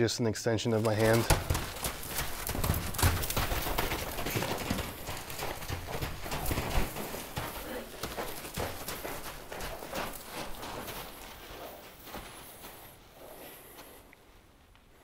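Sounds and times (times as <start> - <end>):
horse hooves striking ground: 0.6 - 15.0.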